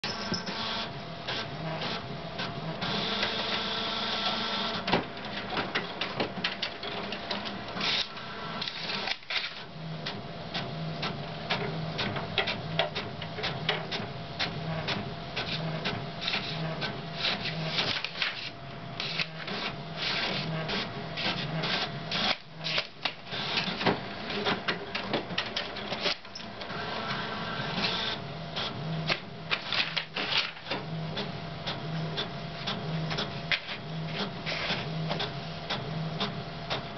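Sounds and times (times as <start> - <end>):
fax printer clicking and whirring: 0.0 - 36.9.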